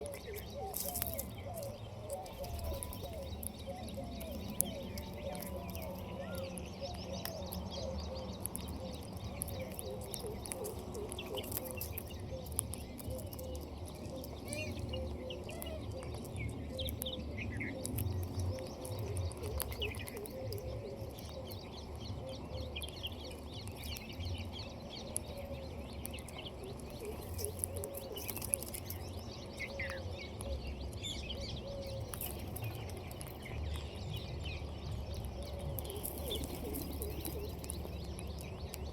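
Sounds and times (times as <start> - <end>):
birds chirping and calling: 0.0 - 38.9
steady low rumble: 0.0 - 38.9.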